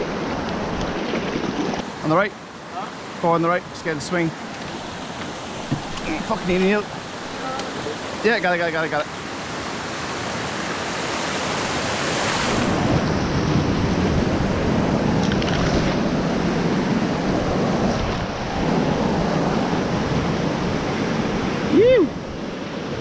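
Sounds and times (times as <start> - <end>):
whitewater rushing over weir: 0.0 - 23.0.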